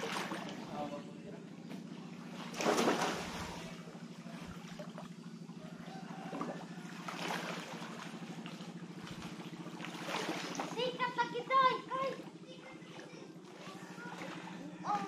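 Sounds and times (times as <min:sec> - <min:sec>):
swimmers splashing water: 0:00.0 - 0:01.0, 0:01.6 - 0:15.0
low pulsing engine drone: 0:00.0 - 0:15.0.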